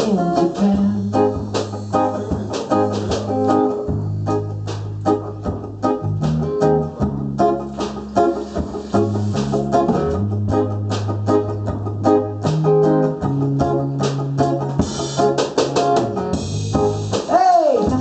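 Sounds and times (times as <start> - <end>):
bass: 0.0 - 18.0
drums: 0.0 - 18.0
guitar: 0.0 - 18.0
organ-like keyboard: 1.0 - 17.1.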